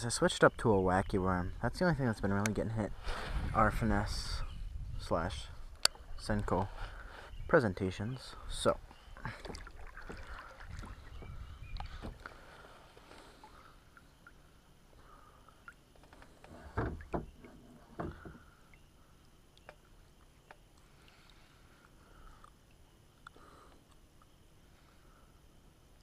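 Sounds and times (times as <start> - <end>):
kayak on calm water: 0.0 - 26.0.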